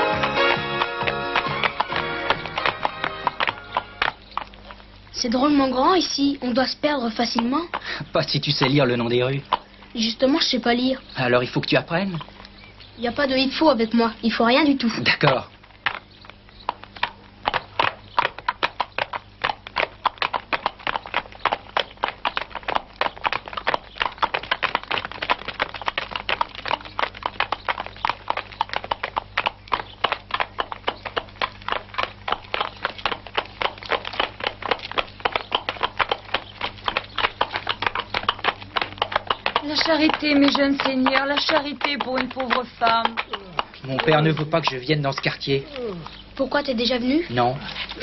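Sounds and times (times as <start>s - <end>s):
hooves clip-clopping on cobblestones: 0.0s - 48.0s.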